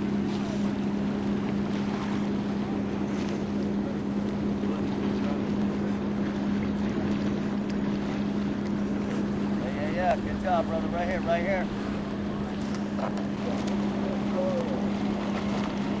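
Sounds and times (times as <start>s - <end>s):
motorboat engine running: 0.0s - 16.0s.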